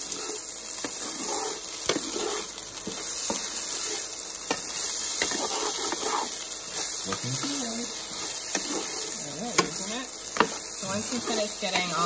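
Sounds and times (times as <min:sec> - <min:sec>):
chicken sizzling in a frying pan: 0:00.0 - 0:12.0
wooden spatula scraping a pan: 0:00.0 - 0:12.0.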